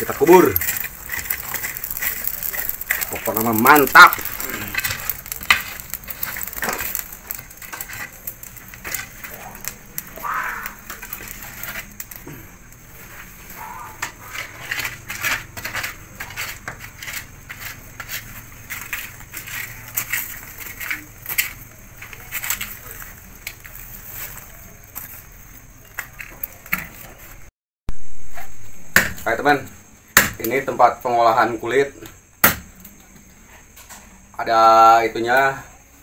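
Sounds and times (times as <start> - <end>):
pole raking charcoal embers: 0.0 - 27.5, 28.3 - 36.0.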